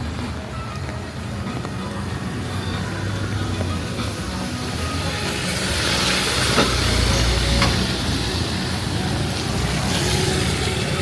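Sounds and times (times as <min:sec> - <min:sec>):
heavy rain: 0:00.0 - 0:11.0
tyres hissing on wet road: 0:00.0 - 0:11.0
vehicle engine rumbling: 0:00.0 - 0:11.0.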